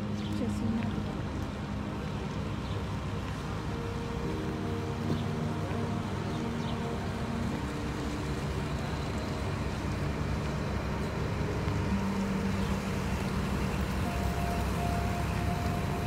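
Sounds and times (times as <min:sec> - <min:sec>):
engine droning: 0:00.0 - 0:16.0
outdoor noise: 0:00.0 - 0:16.0.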